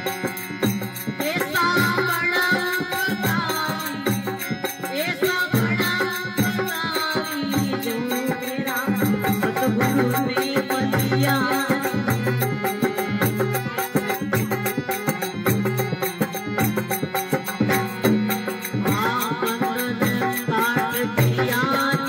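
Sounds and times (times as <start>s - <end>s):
harmonium chords: 0.0s - 22.0s
man singing devotional song: 0.0s - 22.0s
percussion beat: 0.0s - 22.0s.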